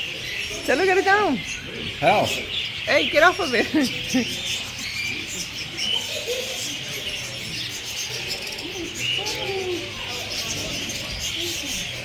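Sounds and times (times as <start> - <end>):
flock of birds chirping: 0.0 - 12.0.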